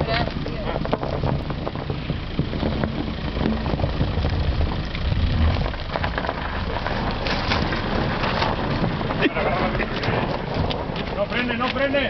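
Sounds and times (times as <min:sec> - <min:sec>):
car engine running under load: 0:00.0 - 0:12.0
tyres skidding in snow: 0:00.0 - 0:12.0.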